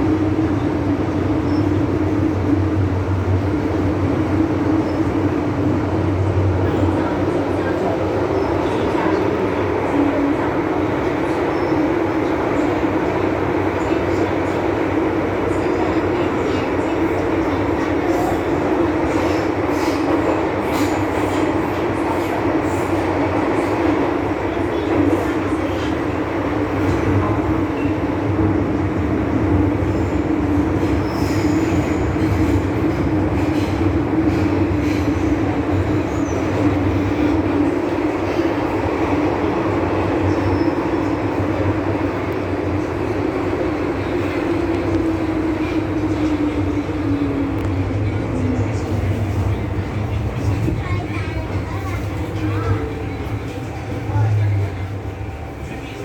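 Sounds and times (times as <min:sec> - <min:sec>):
train wheels and motors rumbling: 0:00.0 - 0:56.0
wheels squeaking on rails: 0:00.6 - 0:02.4, 0:04.3 - 0:14.8, 0:15.4 - 0:28.1, 0:29.7 - 0:56.0.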